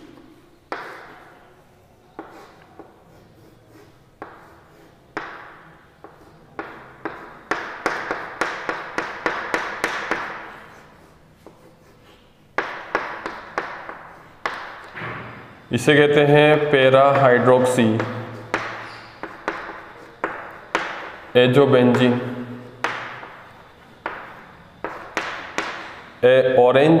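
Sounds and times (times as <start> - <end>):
chalk tapping and scratching on board: 0.2 - 1.3, 2.1 - 15.0, 17.8 - 26.1.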